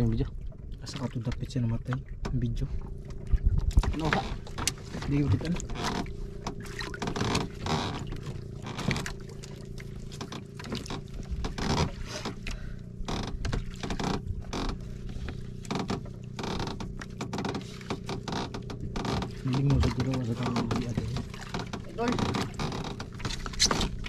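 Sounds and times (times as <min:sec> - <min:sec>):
boat engine droning: 0:00.0 - 0:24.0
water splashing against hull: 0:00.0 - 0:24.0.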